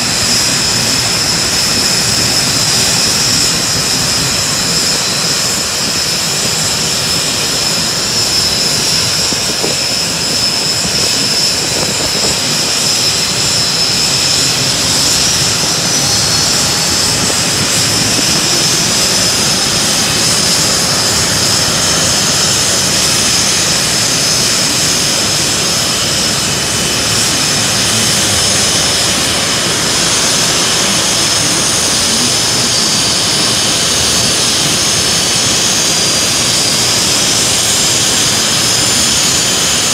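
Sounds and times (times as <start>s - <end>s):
jet engine rush with whine: 0.0s - 39.9s.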